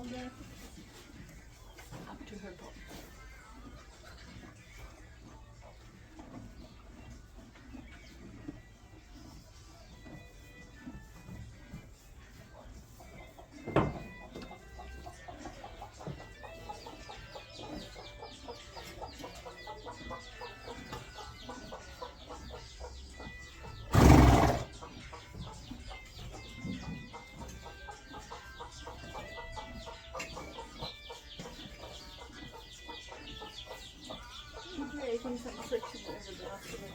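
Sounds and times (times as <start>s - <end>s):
chickens clucking: 0.0s - 36.9s
faint music: 0.0s - 36.9s.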